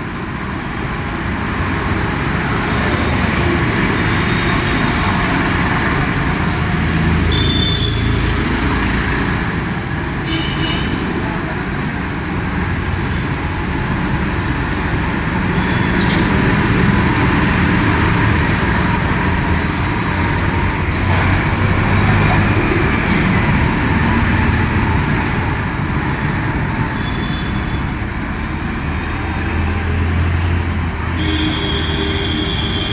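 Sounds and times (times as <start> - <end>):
traffic rumble: 0.0 - 32.9.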